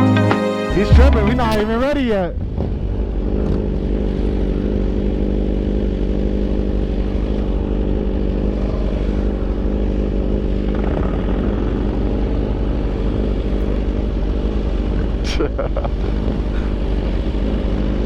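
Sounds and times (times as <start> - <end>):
motorcycle engine running: 2.5 - 18.0.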